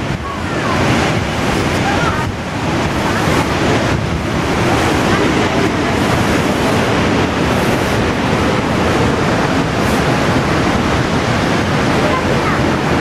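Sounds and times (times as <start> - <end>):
river torrent rushing: 0.0 - 13.0.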